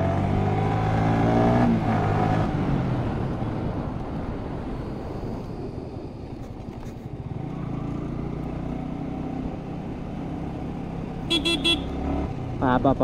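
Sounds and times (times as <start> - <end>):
vehicle engine humming: 1.8 - 13.0.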